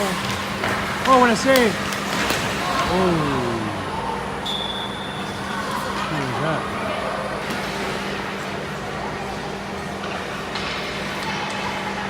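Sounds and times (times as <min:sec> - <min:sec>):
spectators chatting: 0:00.0 - 0:12.0.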